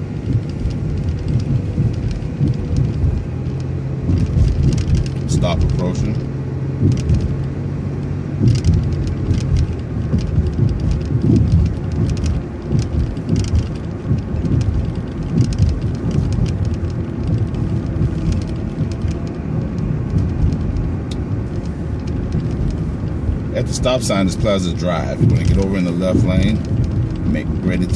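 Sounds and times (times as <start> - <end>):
bus engine and road rumble: 0.0 - 27.9
bus rattles and clicks: 0.0 - 27.9.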